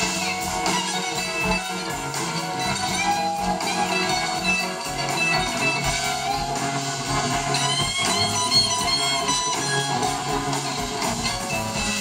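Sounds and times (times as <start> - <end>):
blues-rock band with electric guitars: 0.0 - 12.0.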